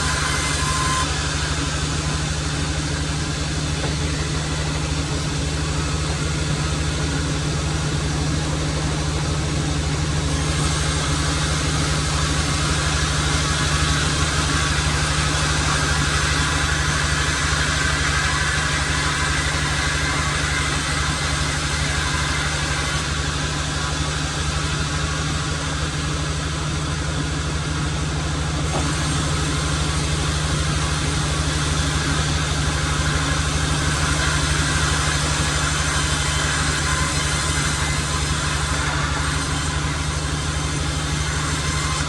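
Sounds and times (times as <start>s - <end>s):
sawmill machinery humming: 0.0s - 42.0s.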